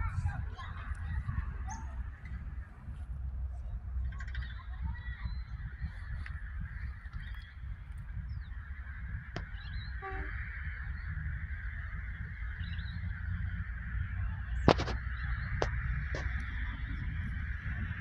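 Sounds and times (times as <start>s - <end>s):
diesel locomotive hum and rumble: 0.0s - 18.0s.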